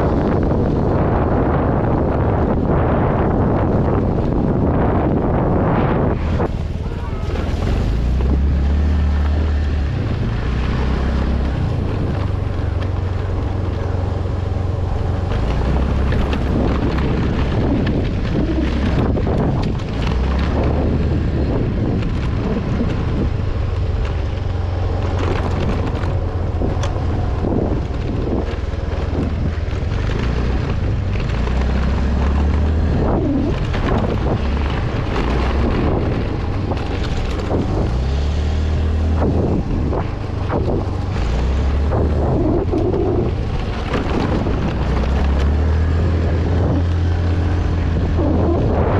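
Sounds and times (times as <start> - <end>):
vehicle engine running: 0.0 - 48.9
wind buffeting microphone: 0.0 - 48.9.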